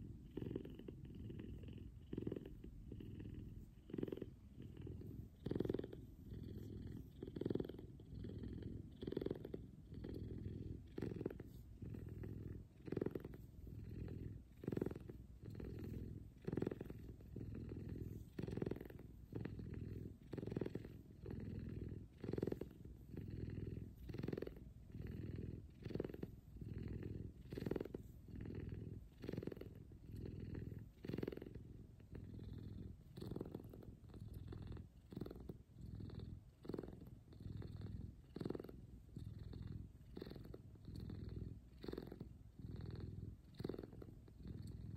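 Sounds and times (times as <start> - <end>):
cat purring loudly: 0.0 - 44.9.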